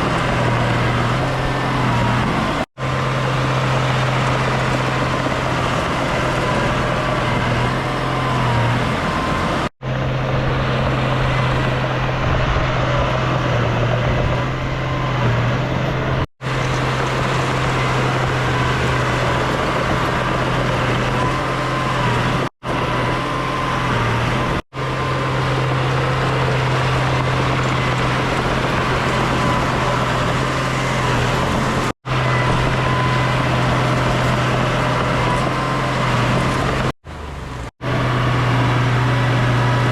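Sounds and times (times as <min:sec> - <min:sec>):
heavy diesel machinery drone: 0:00.0 - 0:39.9.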